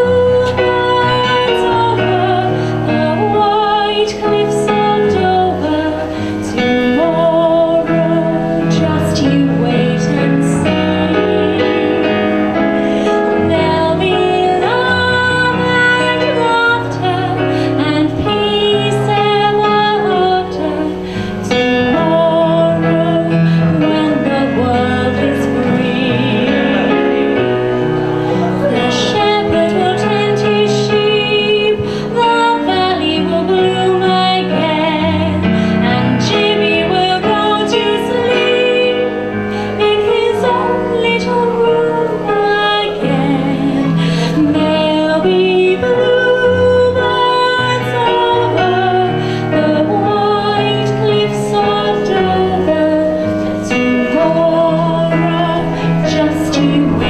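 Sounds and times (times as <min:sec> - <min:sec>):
keyboard sustained chords: 0:00.0 - 0:57.0
woman singing with vibrato: 0:00.0 - 0:57.0.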